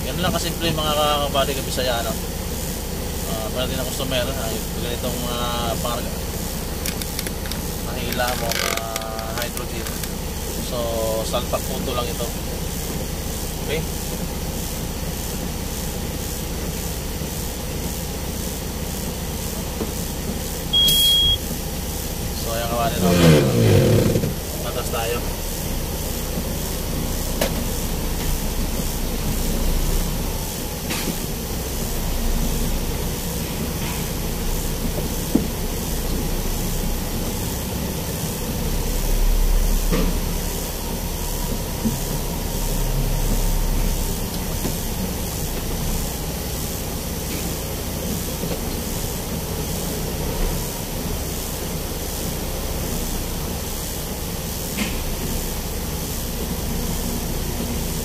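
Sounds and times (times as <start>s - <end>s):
constant hiss: 0.0s - 58.0s
truck engine rumble: 0.0s - 58.0s.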